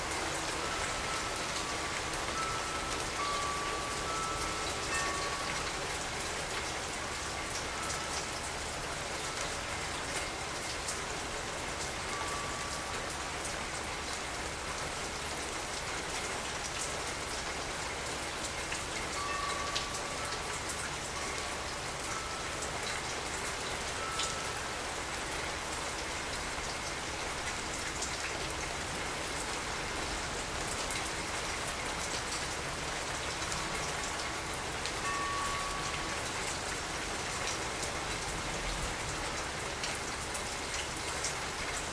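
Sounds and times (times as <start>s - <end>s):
rain falling: 0.0s - 41.9s
raindrops ticking on surfaces: 0.0s - 41.9s.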